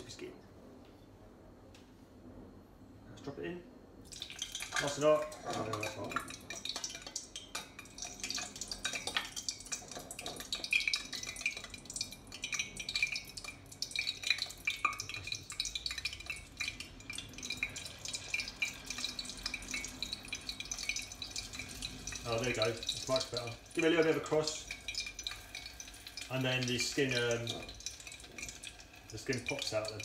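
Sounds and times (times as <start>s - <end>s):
hot oil sizzling and crackling: 4.0s - 30.0s.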